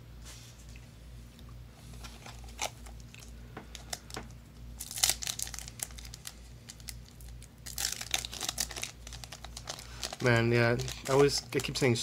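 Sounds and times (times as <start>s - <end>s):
foil pack crinkling: 1.9s - 12.0s.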